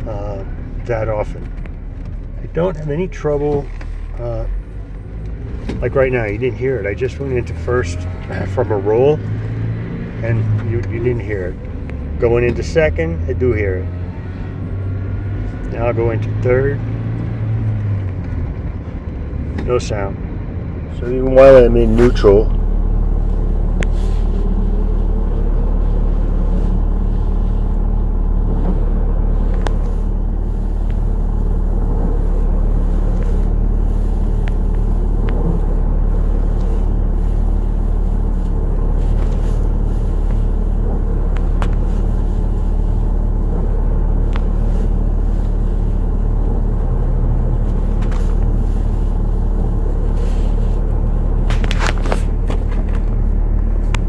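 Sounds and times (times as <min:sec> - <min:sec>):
pickup engine idling: 0:00.0 - 0:09.5, 0:15.4 - 0:54.0.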